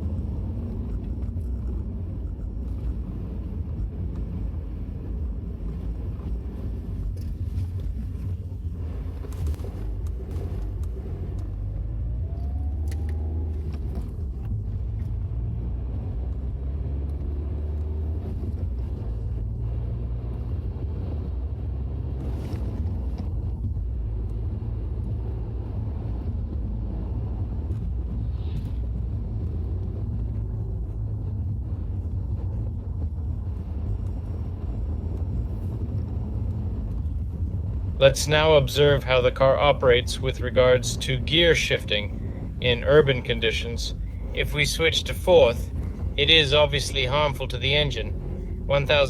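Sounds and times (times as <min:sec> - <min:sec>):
car engine and road noise rumble: 0:00.0 - 0:49.0.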